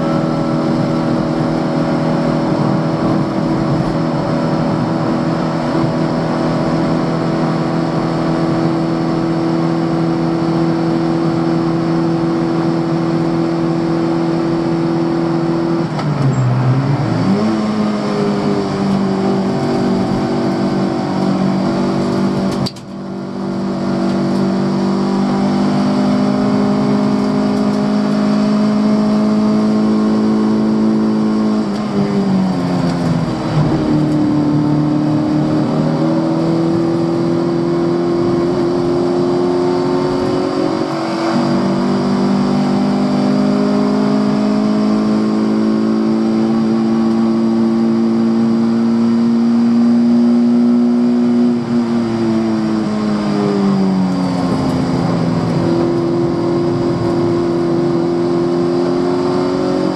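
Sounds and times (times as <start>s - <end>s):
race car engine revving high: 0.0s - 59.9s.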